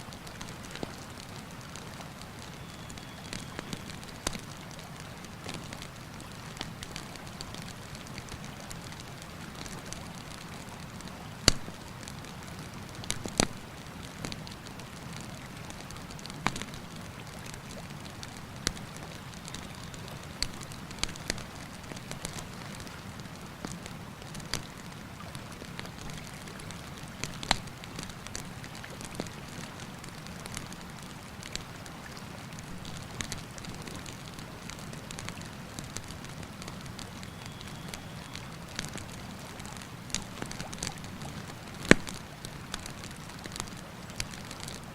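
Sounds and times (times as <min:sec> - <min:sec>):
campfire crackling and popping: 0:00.1 - 0:44.9.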